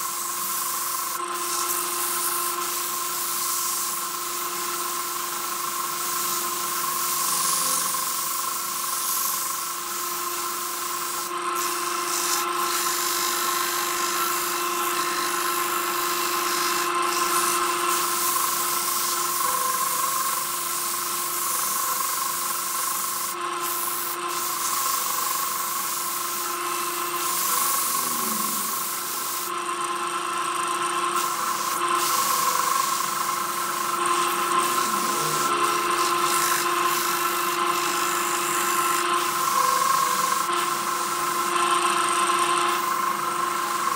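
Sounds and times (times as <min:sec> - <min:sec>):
sandpaper rubbing on spinning wood: 0:00.0 - 0:29.5, 0:31.1 - 0:41.2
lathe humming: 0:00.0 - 0:43.9.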